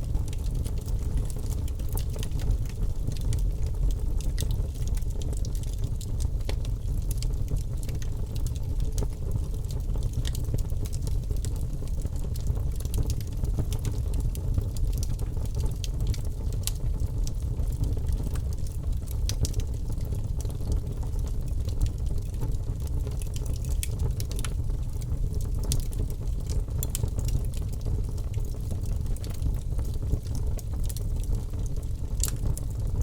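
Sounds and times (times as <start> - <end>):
fire crackling and popping: 0.0 - 33.0
fire rumbling: 0.1 - 33.0.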